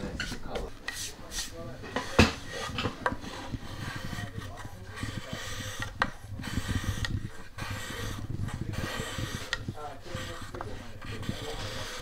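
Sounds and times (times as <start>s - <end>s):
steel tool scraping wood: 0.2s - 12.0s.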